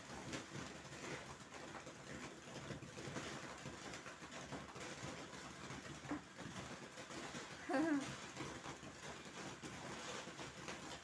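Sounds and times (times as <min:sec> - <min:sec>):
small firework crackles: 0:00.0 - 0:11.0.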